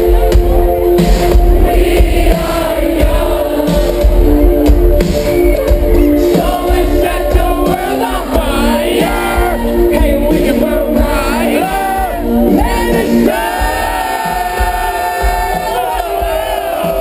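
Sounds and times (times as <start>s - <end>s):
crowd shouting and singing: 0.0s - 17.0s
live band music: 0.0s - 17.0s.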